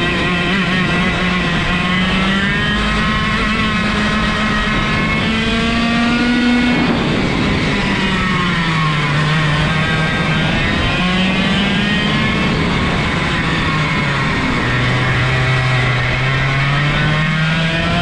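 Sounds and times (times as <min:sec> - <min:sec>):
go-kart engine running hard: 0:00.0 - 0:18.0.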